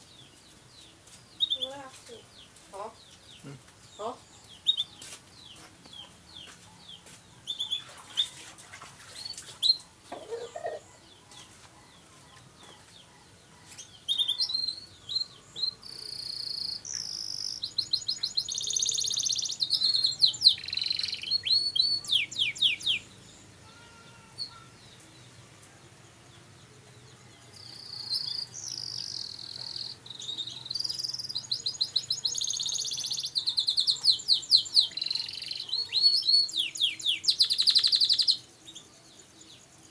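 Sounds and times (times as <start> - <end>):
canary singing trills: 0.0 - 25.4, 26.6 - 39.9.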